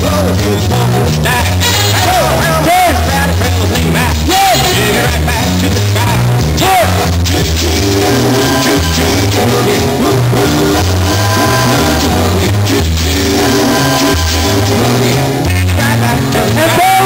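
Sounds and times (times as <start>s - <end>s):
rock song with singer: 0.0s - 17.0s.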